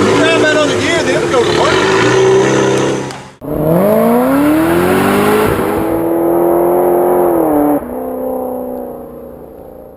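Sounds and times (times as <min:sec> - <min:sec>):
vehicle engine revving: 0:00.0 - 0:09.9.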